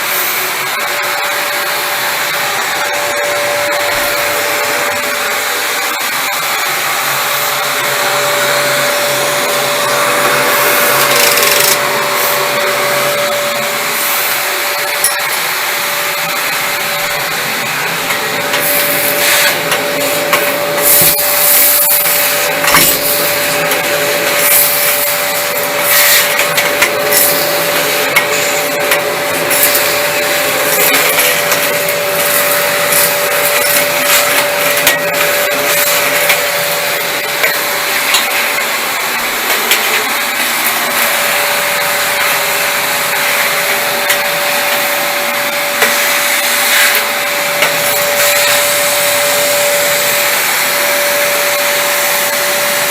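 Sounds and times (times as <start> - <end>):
vacuum cleaner whining: 0.0 - 52.9.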